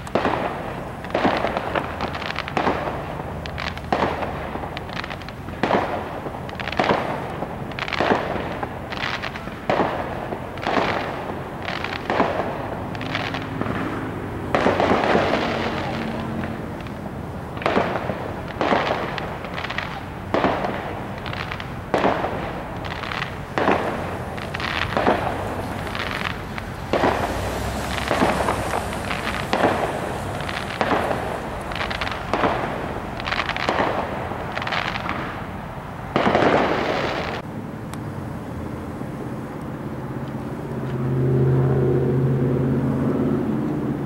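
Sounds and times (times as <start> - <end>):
fireworks bangs: 0.0 - 37.5.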